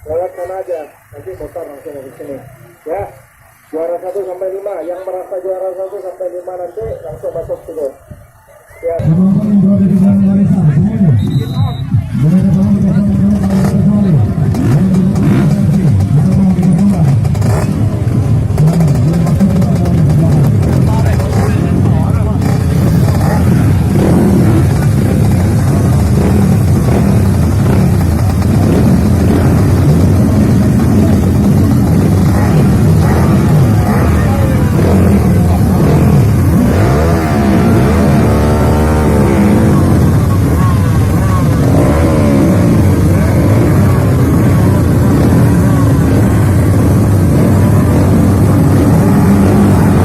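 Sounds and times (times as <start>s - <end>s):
dirt bike engines rumbling: 0.0s - 50.0s.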